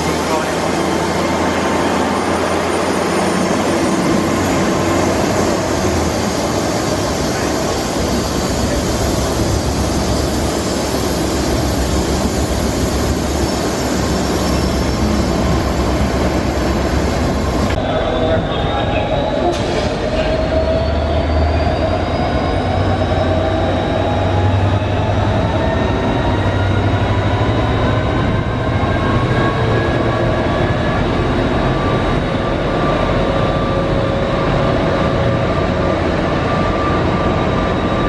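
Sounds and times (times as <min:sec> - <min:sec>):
diesel train passing loudly: 0:00.0 - 0:38.0.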